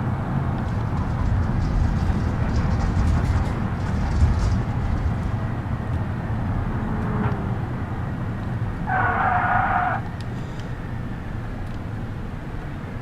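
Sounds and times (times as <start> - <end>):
minivan engine and road rumble: 0.0 - 13.0.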